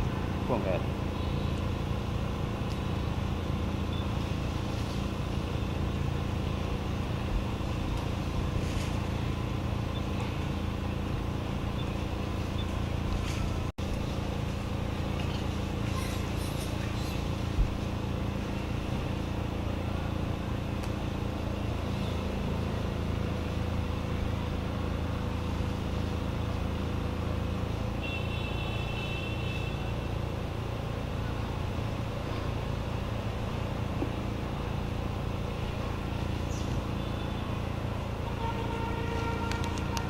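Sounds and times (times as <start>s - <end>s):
engine hum: 0.0s - 40.0s.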